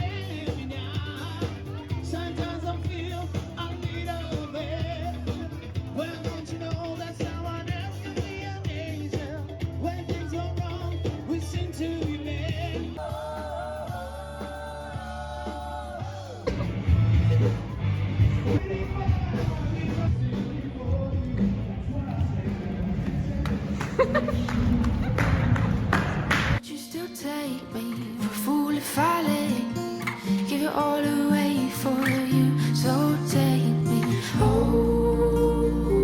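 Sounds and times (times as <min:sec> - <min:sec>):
pop song with singer and band: 0:00.0 - 0:22.8, 0:26.6 - 0:36.0.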